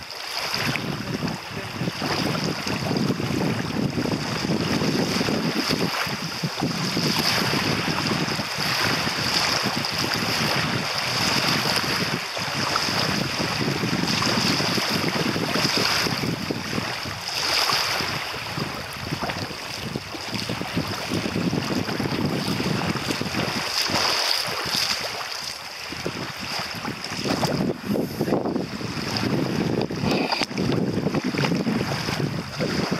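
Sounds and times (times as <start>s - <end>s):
waves lapping on gravel shore: 0.0s - 32.9s
wind buffeting microphone: 0.0s - 32.9s.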